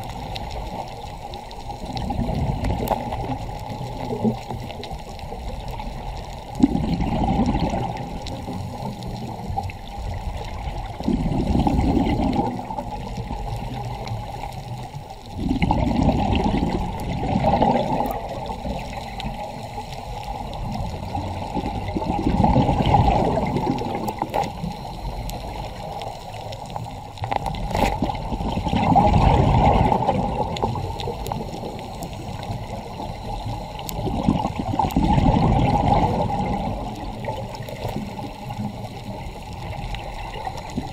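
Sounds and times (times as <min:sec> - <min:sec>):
underwater hiss: 0:00.0 - 0:40.9
diver exhaling bubbles: 0:01.7 - 0:04.6, 0:06.4 - 0:09.8, 0:10.4 - 0:14.4, 0:15.3 - 0:25.6, 0:27.2 - 0:40.9.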